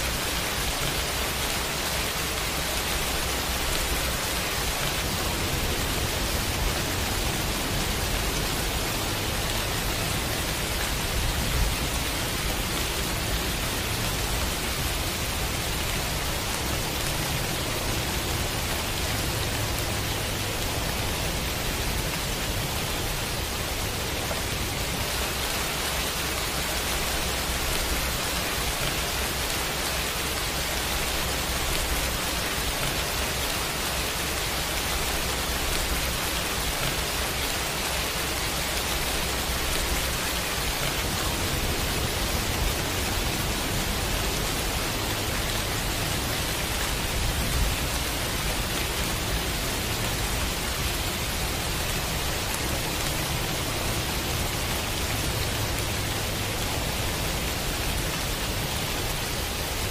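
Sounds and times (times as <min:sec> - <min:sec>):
steady pouring rain: 0:00.0 - 0:59.9.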